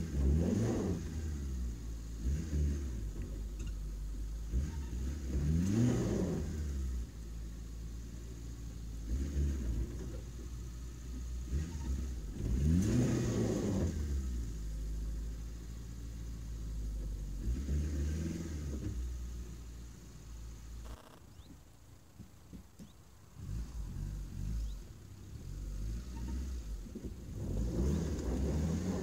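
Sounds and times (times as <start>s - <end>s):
car engine revving: 0.0s - 21.5s, 23.3s - 29.0s.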